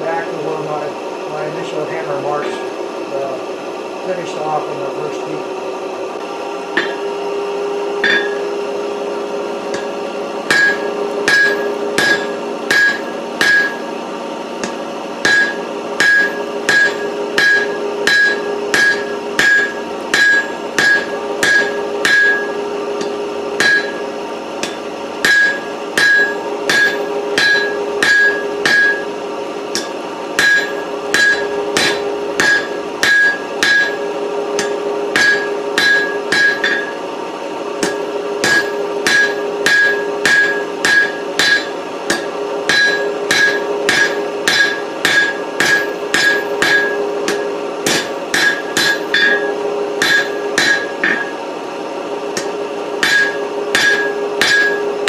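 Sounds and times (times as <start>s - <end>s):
steady hum: 0.0s - 55.0s
hammer striking steel on anvil: 6.8s - 7.2s, 8.0s - 8.6s, 9.7s - 13.9s, 14.6s - 37.0s, 37.8s - 51.4s, 52.3s - 55.0s.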